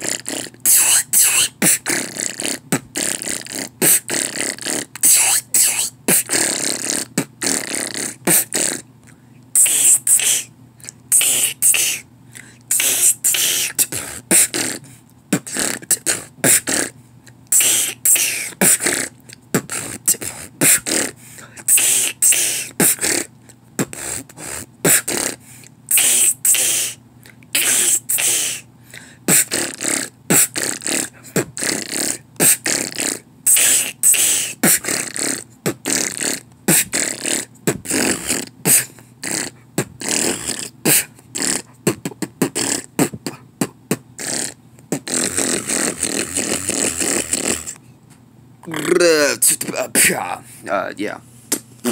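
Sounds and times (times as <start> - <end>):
man beatboxing: 0.0 - 8.9, 9.6 - 12.1, 12.7 - 28.7, 29.3 - 47.8, 48.6 - 50.4, 51.5 - 51.9.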